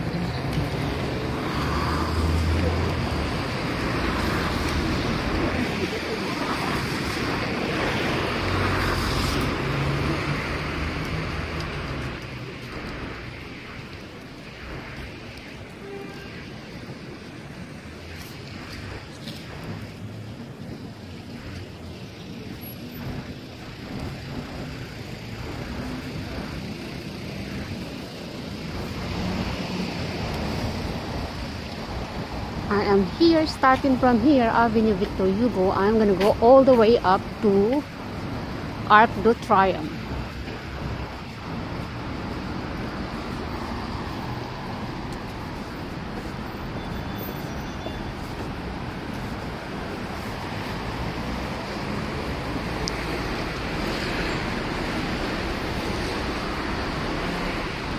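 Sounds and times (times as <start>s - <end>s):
car engines passing: 0.0s - 57.9s
tyres hissing on wet road: 0.0s - 57.9s.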